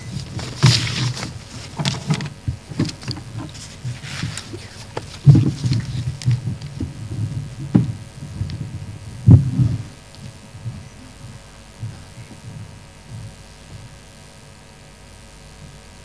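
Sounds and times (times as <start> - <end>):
microphone thuds and knocks: 0.0 - 14.3
faint hum: 0.0 - 16.0.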